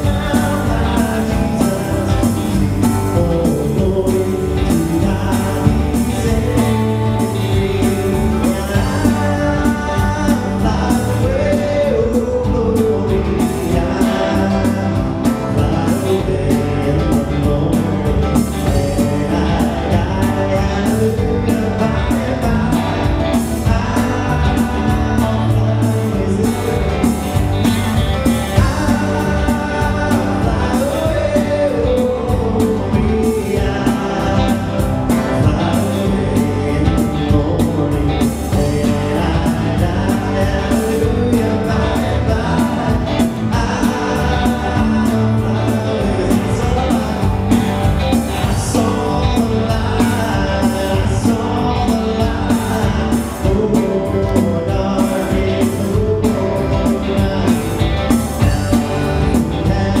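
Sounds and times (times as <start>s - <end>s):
bass guitar: 0.0s - 60.0s
drum kit beat: 0.0s - 60.0s
person singing: 0.0s - 60.0s
strummed guitars: 0.0s - 60.0s.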